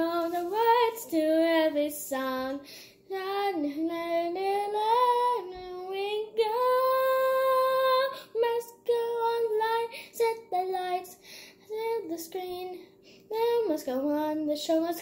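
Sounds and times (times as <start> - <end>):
young girl singing: 0.0 - 15.0.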